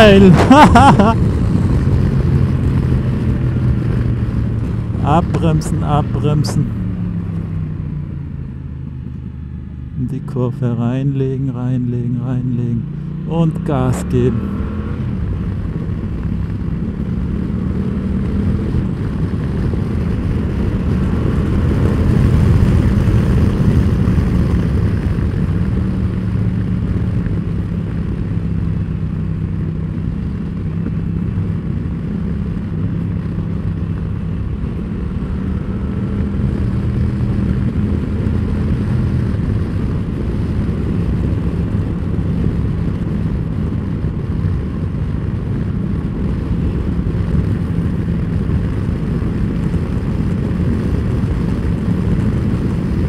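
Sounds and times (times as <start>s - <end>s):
wind rush on microphone: 0.0s - 9.0s, 14.4s - 53.0s.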